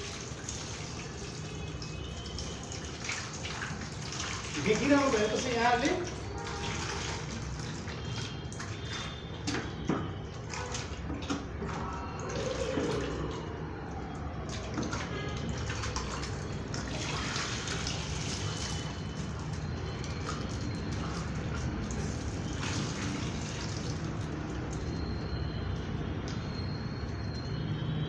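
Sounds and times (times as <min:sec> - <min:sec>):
water sloshing and gurgling: 0:00.0 - 0:27.4
water dripping: 0:00.0 - 0:27.5.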